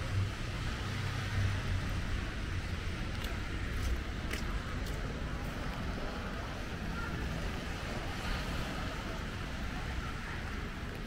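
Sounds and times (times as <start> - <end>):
hiss from wet street: 0.0 - 11.0
low rumble of traffic: 0.0 - 11.0.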